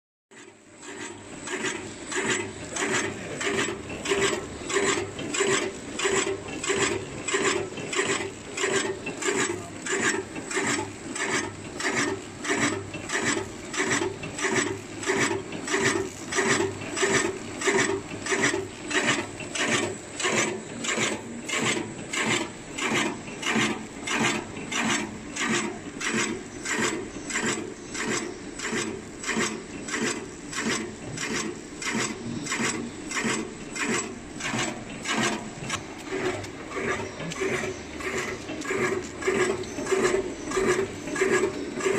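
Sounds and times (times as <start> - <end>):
packing machine rasping strokes: 0.3 - 41.9.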